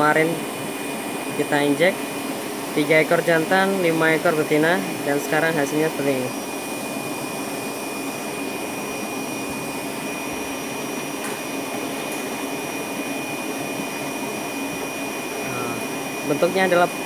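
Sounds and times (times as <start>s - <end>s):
machine whir with high whine: 0.0s - 17.0s.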